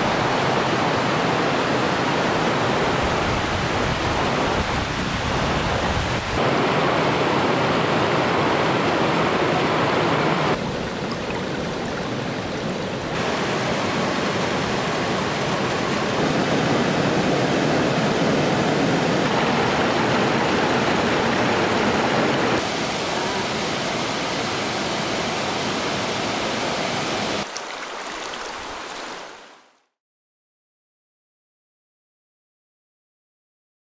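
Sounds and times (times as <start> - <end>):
waterfall and stream rushing: 0.0 - 29.9.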